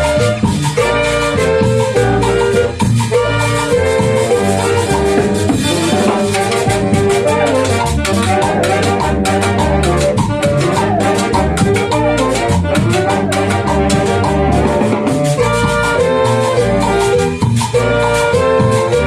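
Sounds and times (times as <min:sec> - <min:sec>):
horns playing melody: 0:00.0 - 0:19.0
percussion driving beat: 0:00.0 - 0:19.0.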